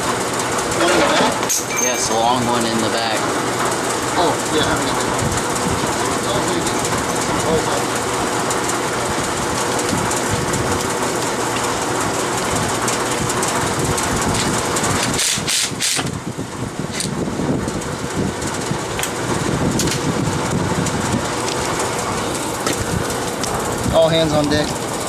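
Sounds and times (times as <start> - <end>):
drum fan rushing: 0.0 - 25.0.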